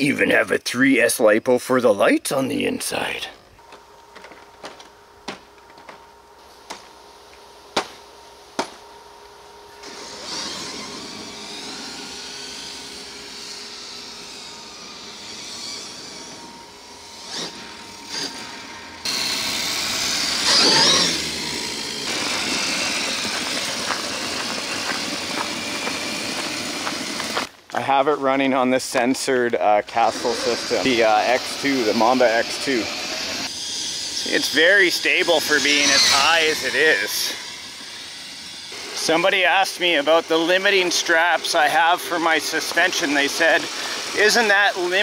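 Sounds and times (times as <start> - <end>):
electric drivetrain whining: 2.9 - 27.6, 29.8 - 45.0.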